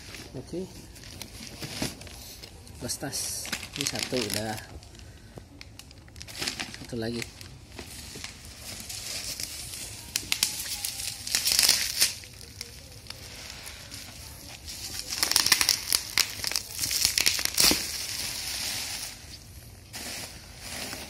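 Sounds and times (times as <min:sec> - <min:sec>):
plastic wrap crinkling: 0:00.0 - 0:21.0.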